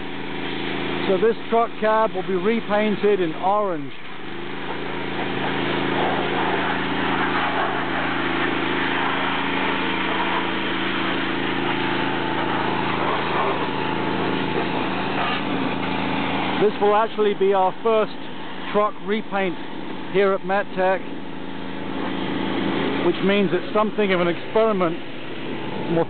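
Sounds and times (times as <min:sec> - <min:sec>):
pressure washer engine hum: 0:00.0 - 0:26.0
water jet spraying: 0:00.0 - 0:26.0.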